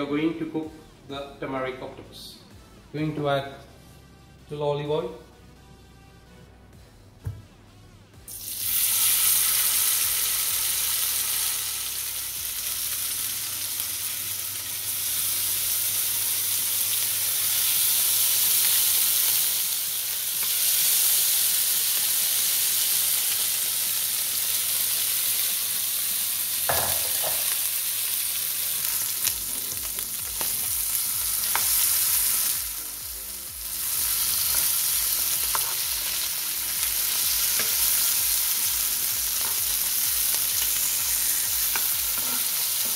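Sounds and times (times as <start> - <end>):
octopus sizzling in a frying pan: 8.3 - 42.9.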